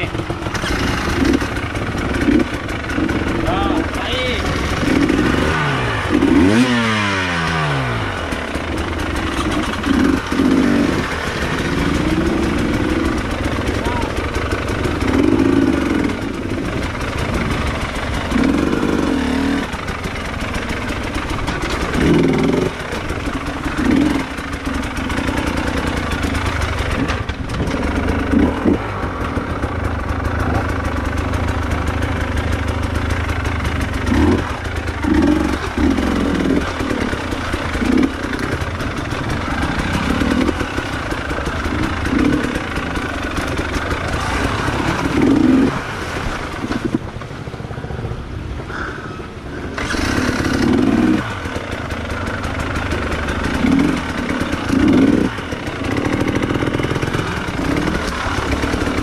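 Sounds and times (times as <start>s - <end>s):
motorcycle engine revving: 0.0s - 48.9s, 49.5s - 59.0s.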